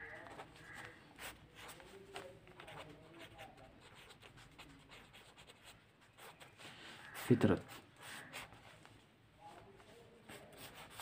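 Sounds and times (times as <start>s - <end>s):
ballpoint pen scratching on paper: 0.0s - 8.9s, 9.8s - 11.0s.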